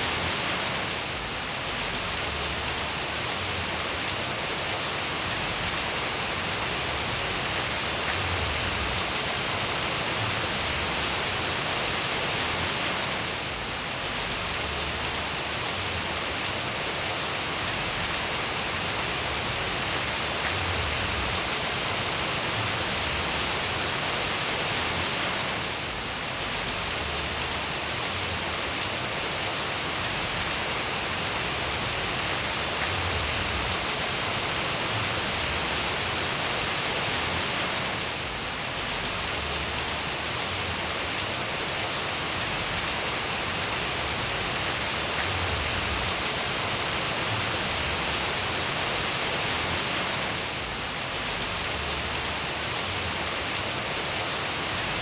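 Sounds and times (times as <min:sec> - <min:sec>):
dense rain falling: 0:00.0 - 0:55.0.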